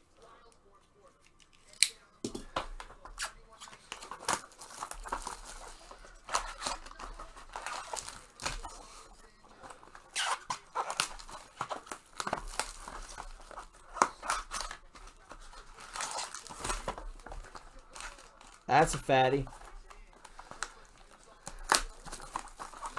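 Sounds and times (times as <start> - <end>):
cardboard packaging tearing: 1.5 - 22.9.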